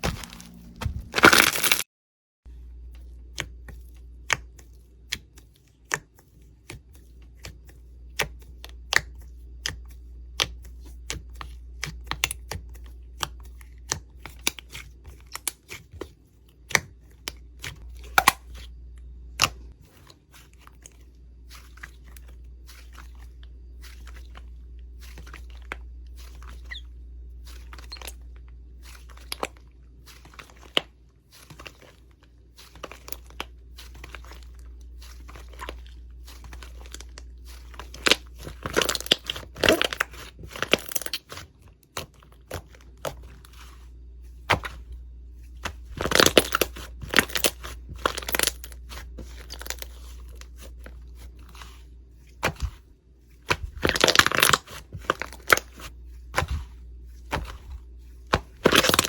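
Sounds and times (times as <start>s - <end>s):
low steady hum: 0.0s - 1.8s, 2.5s - 59.0s.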